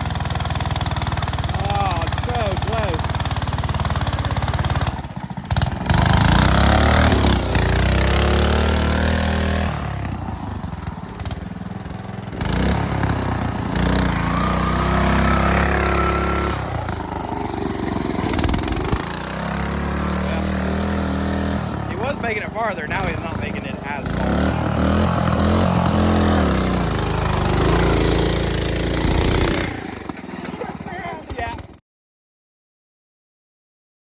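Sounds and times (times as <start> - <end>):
tractor engine revving: 0.0 - 31.8.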